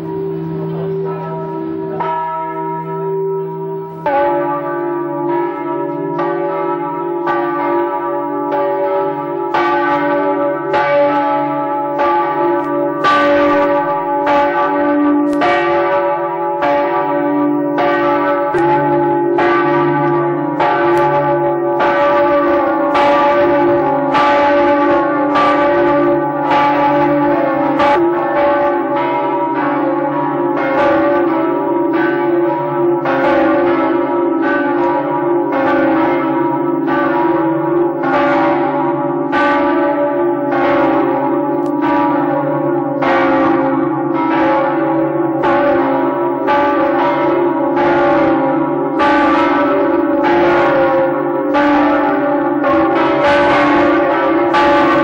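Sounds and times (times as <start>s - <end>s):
large church bells ringing: 0.0s - 55.0s.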